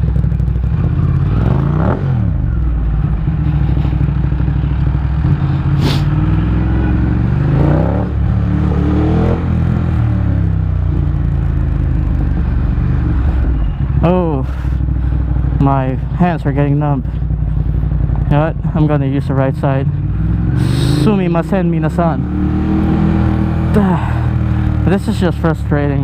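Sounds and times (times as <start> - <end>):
motorcycle engine running: 0.0 - 26.0
nearby vehicle engines: 0.0 - 26.0.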